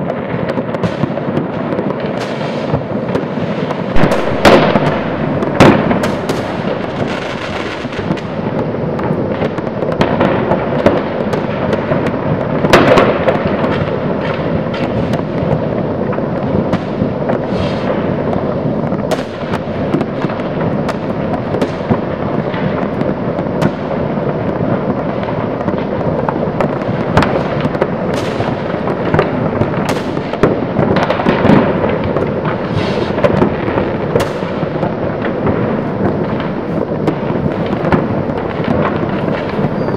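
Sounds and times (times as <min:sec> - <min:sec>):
fireworks rumble and crackle: 0:00.0 - 0:39.9
sharp firework bangs: 0:00.0 - 0:39.9.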